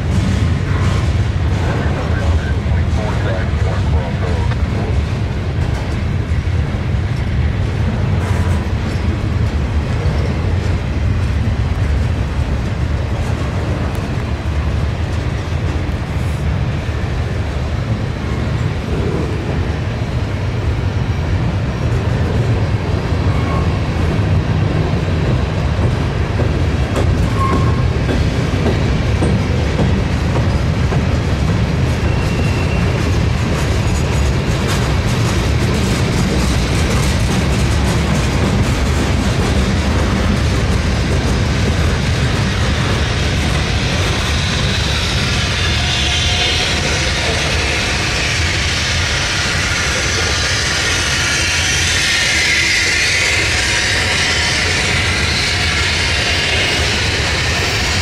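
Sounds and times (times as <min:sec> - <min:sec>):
train rumbling past on rails: 0:00.0 - 0:58.0.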